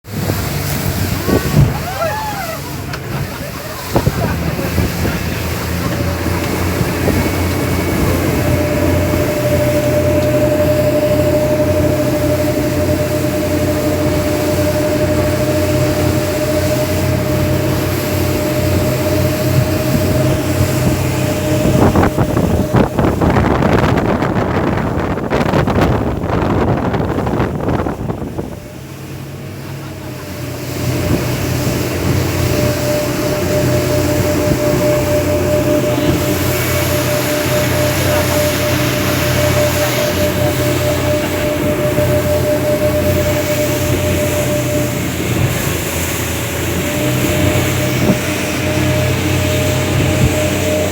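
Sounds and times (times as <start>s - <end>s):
speedboat engine whine: 0.0s - 50.9s.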